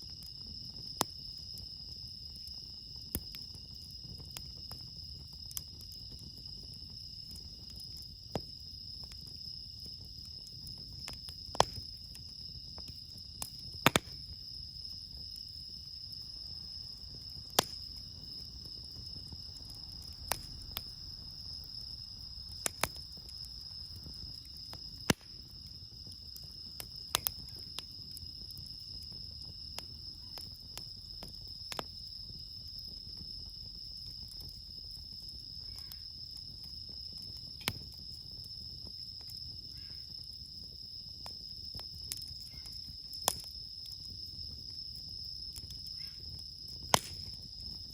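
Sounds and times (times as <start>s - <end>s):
campfire crackling: 0.0s - 47.9s
crickets chirping: 0.0s - 47.9s
low rumble of fire: 0.0s - 47.9s.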